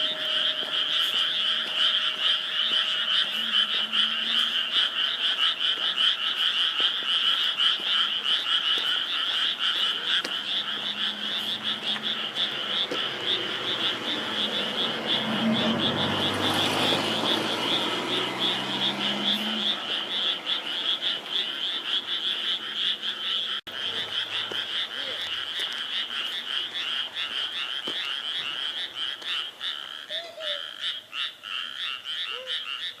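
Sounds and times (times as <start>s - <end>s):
chorus of frogs croaking: 0.0s - 33.0s.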